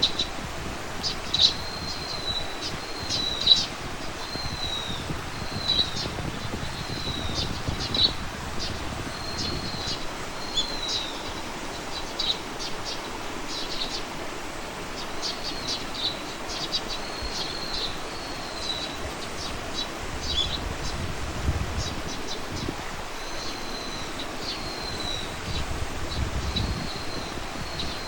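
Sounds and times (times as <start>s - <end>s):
outdoor background hiss: 0.0s - 28.0s
small birds chirping: 0.0s - 28.0s.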